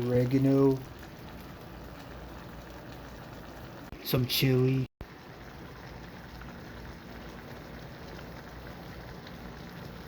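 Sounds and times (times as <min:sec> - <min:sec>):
food simmering with bubbling hiss: 0:00.0 - 0:10.0.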